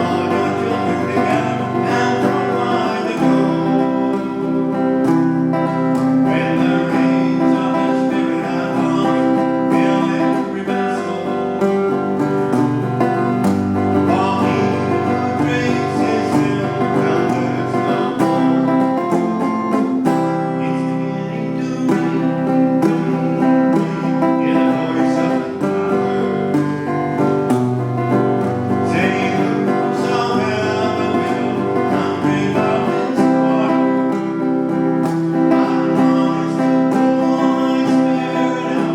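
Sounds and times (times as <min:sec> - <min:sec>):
country music with acoustic guitar: 0:00.0 - 0:38.9.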